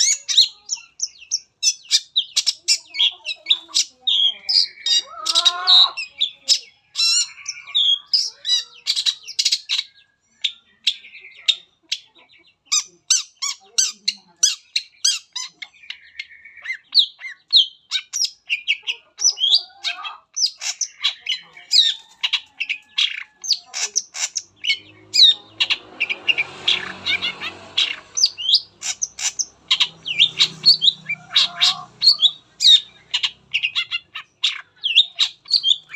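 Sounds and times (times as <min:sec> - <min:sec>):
bird singing varied song: 0:00.0 - 0:35.9.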